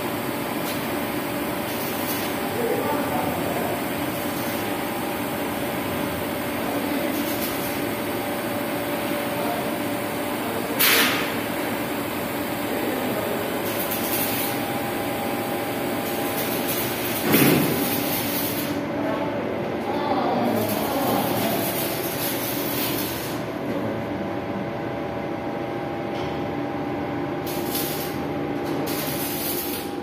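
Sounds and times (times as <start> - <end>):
welding machine hum and hiss: 0.0 - 30.0.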